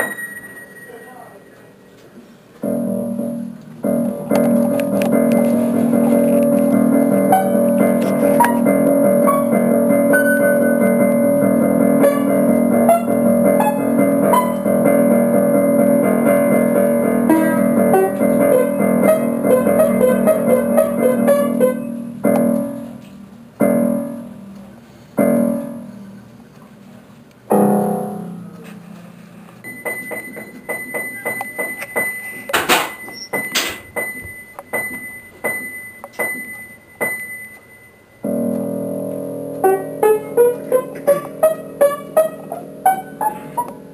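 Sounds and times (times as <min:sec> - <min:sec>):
piano music: 0:00.0 - 0:01.7, 0:02.6 - 0:26.5, 0:27.4 - 0:43.9.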